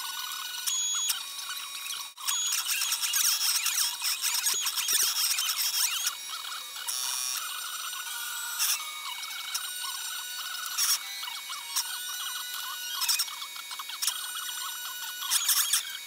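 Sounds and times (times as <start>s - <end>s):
stepper motors whining: 0.0s - 16.0s.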